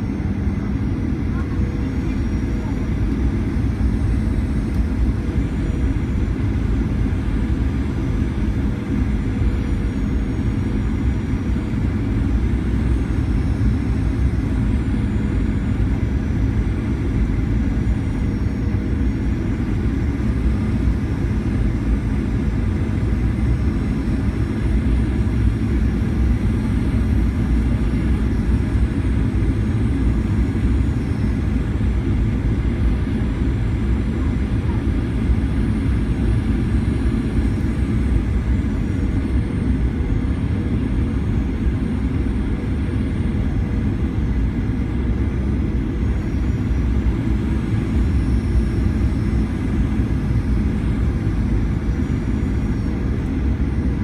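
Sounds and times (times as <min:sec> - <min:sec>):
airplane cabin rumble: 0:00.0 - 0:54.0
jet engine whine: 0:00.0 - 0:54.0.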